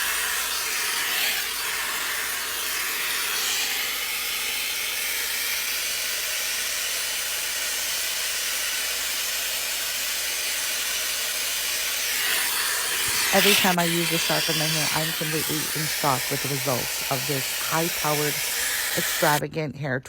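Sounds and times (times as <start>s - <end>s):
hair dryer blowing air: 0.0s - 19.4s.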